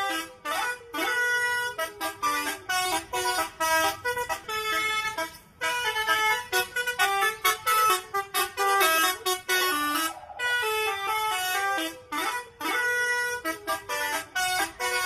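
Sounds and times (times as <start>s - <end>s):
bus air horns playing tunes: 0.0s - 15.0s.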